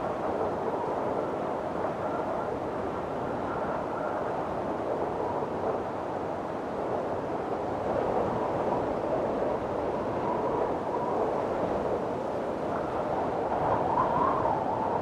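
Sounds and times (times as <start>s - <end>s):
faint thin wind whistle: 0.0s - 15.0s
windstorm gusting: 0.0s - 15.0s.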